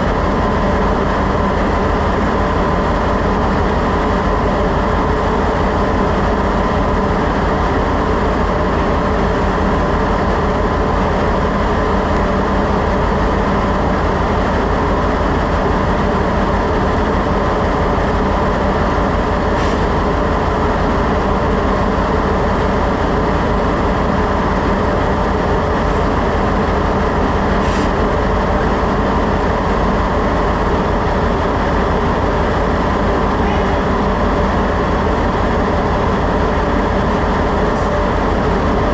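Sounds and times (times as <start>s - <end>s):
engine-room machinery drone: 0.0s - 38.9s.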